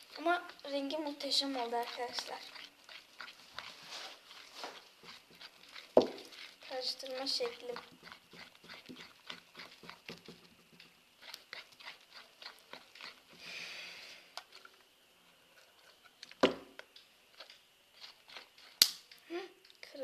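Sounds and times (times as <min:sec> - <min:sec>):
slime squelching: 0:00.0 - 0:20.0.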